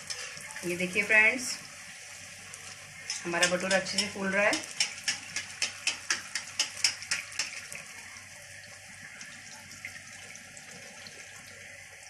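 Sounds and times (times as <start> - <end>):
bread deep-frying in oil: 0.0 - 12.0.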